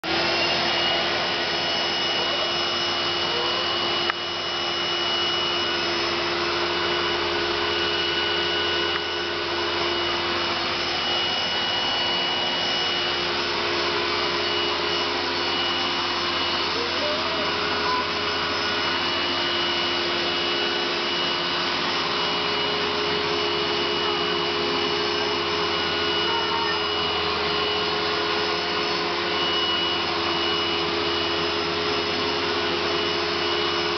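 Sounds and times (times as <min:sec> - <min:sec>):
wet vacuum cleaner running: 0:00.0 - 0:33.9.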